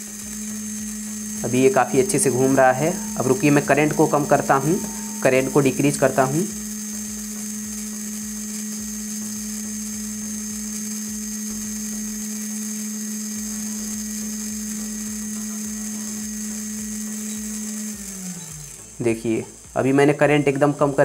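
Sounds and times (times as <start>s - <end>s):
small motor whining: 0.0s - 21.0s.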